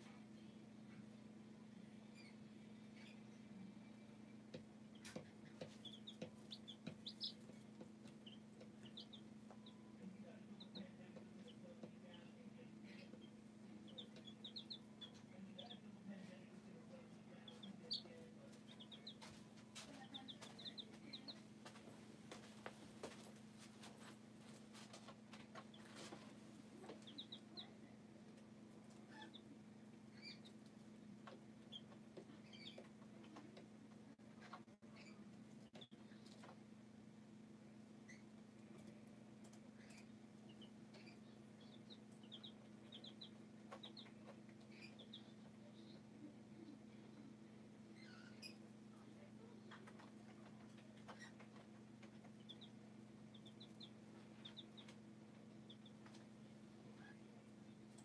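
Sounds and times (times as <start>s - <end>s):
baby chicks peeping: 0.0s - 58.0s
steady low hum: 0.0s - 58.0s.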